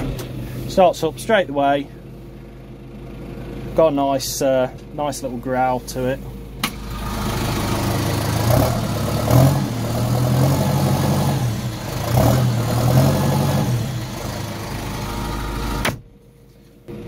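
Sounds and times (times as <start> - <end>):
tractor engine revving and idling: 0.0 - 17.0.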